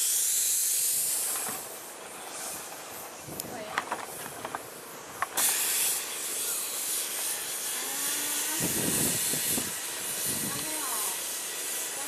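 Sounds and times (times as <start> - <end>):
paint spray gun hissing: 0.0 - 12.0.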